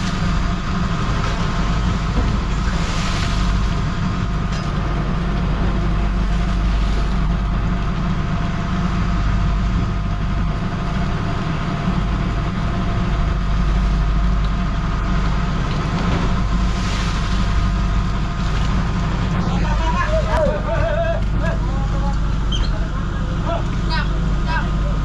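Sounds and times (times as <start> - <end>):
boat engine drone: 0.0 - 25.0.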